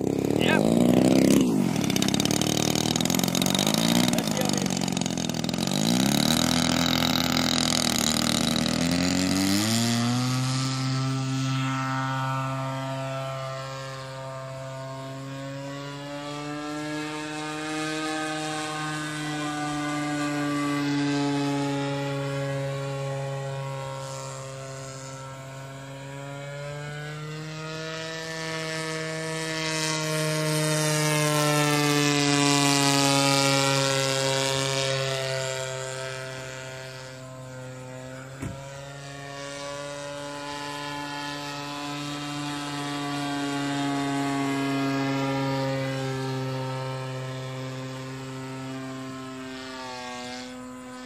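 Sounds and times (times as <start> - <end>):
model airplane motor and propeller: 0.0 - 51.0.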